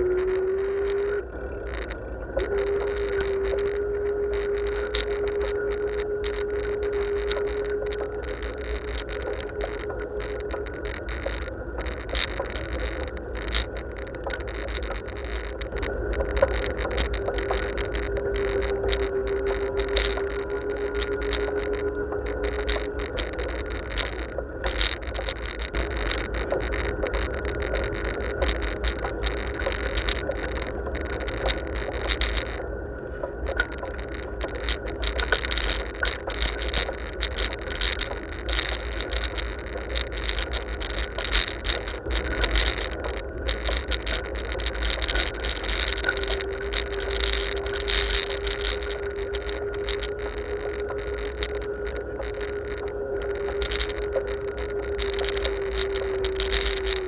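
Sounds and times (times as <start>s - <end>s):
bike rattling over road: 0.0s - 57.0s
steady whine: 0.0s - 57.0s
wind rumbling on microphone: 0.0s - 57.0s.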